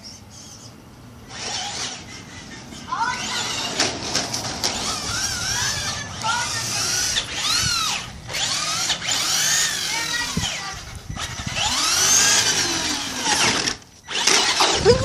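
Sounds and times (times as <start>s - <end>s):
toy car electric motor whining: 1.2s - 15.0s.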